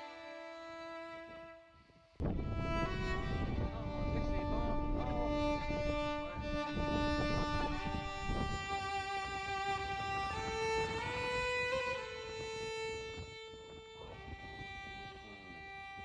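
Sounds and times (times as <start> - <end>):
violin playing held notes: 0.0 - 16.0.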